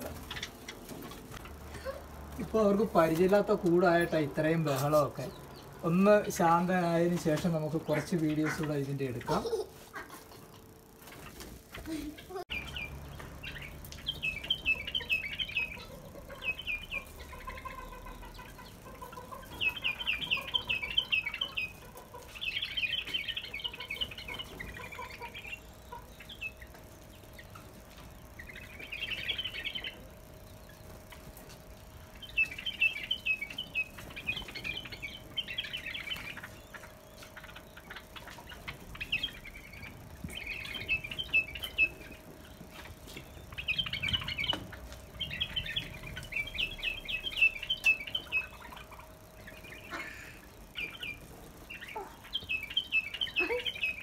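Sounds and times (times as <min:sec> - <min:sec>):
birds chattering in high chirps: 0:00.0 - 0:54.0.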